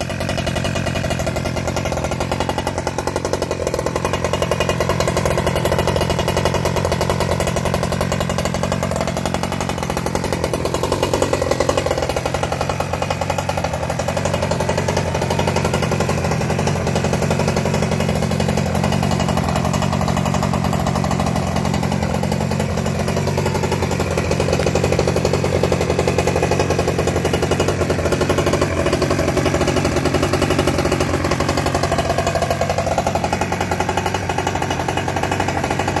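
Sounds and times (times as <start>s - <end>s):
two-stroke engine idling: 0.0s - 36.0s.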